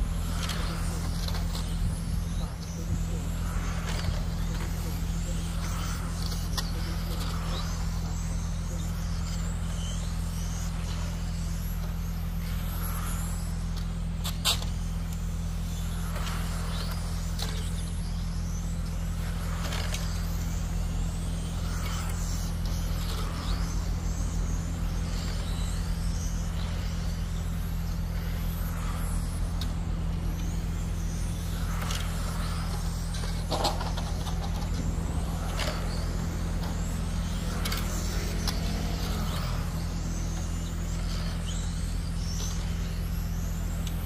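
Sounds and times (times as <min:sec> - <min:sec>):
low steady hum: 0:00.0 - 0:44.0
rc car motors whining: 0:00.0 - 0:44.0.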